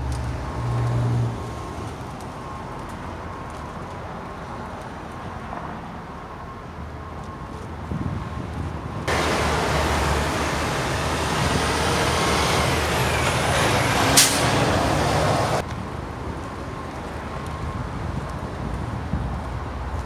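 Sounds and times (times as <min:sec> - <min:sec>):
heavy diesel street traffic: 0:00.0 - 0:20.0
open-air background noise: 0:00.0 - 0:20.0.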